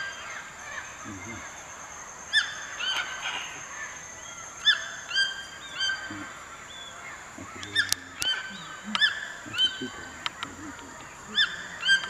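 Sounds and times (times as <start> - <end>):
high-pitched background drone: 0.0 - 12.0
macaws squawking: 0.0 - 12.0.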